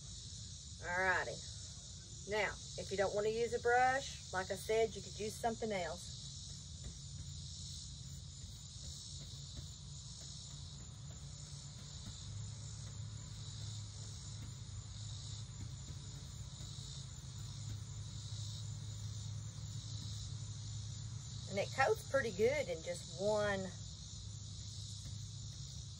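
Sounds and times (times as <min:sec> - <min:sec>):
crickets chirping: 0:00.0 - 0:25.9
low steady hum: 0:00.0 - 0:25.9.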